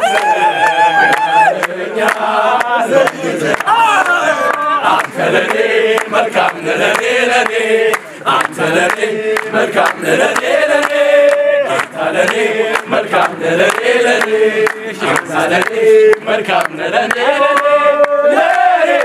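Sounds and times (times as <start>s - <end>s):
hand claps: 0.0s - 19.0s
men singing call-and-response chant: 0.0s - 19.0s.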